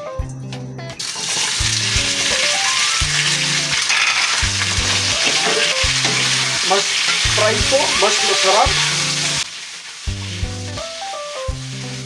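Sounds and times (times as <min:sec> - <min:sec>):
food sizzling in hot oil: 0:01.0 - 0:12.0
spatula stirring in pan: 0:01.2 - 0:12.0.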